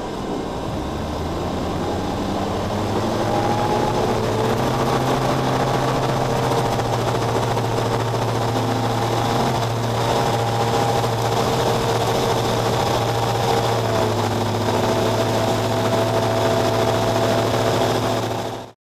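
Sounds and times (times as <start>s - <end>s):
airplane engine and propeller: 0.0s - 18.8s.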